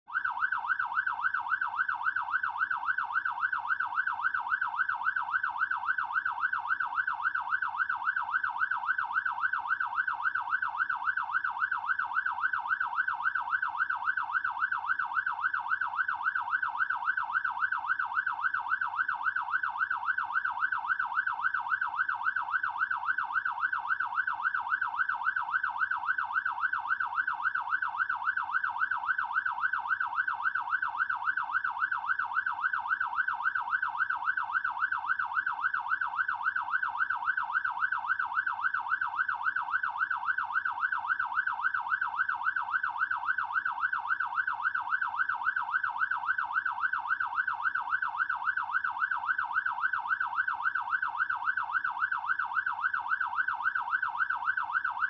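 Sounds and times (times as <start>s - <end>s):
fire truck siren yelping: 0.1s - 55.0s.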